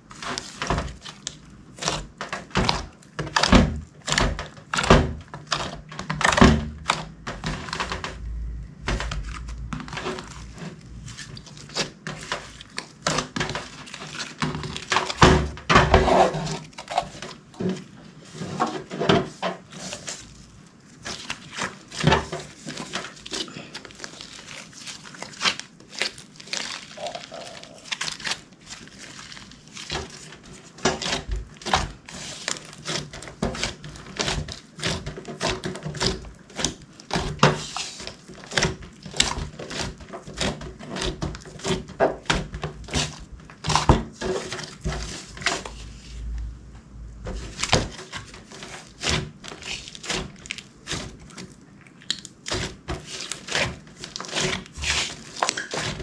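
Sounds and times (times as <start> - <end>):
slime squishing with sticky pops: 0.0 - 18.2, 18.8 - 46.5, 47.2 - 56.0.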